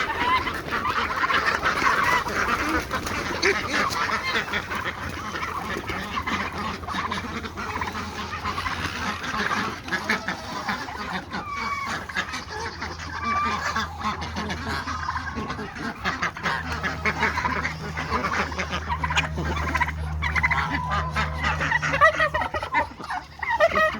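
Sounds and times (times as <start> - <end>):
ducks quacking: 0.0 - 23.9
geese honking: 0.0 - 23.9.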